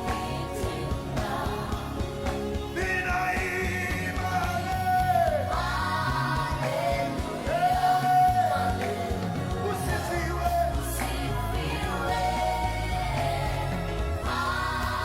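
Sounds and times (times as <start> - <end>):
band with steady bass: 0.0 - 15.0.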